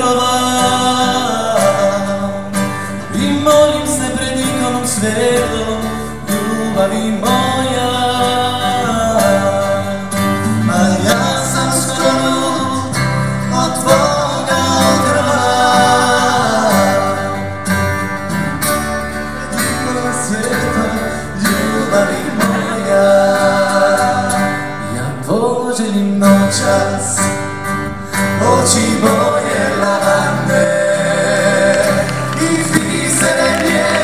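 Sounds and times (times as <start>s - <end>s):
acoustic band playing country music: 0.0s - 34.0s.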